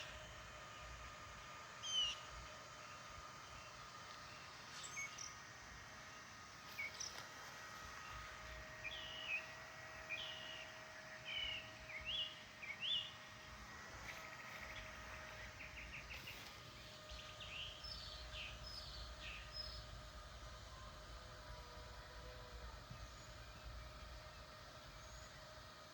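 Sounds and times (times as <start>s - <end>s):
small birds chirping: 0.0s - 20.4s, 22.5s - 25.9s
faint steady hum: 0.0s - 25.9s.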